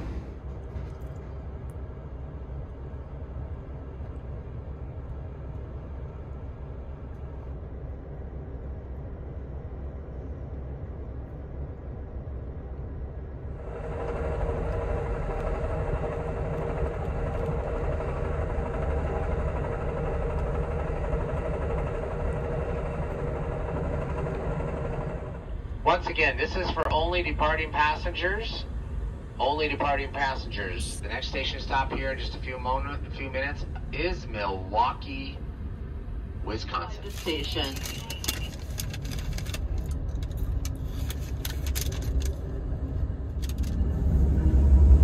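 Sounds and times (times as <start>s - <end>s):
passenger train rumbling: 0.0s - 45.0s.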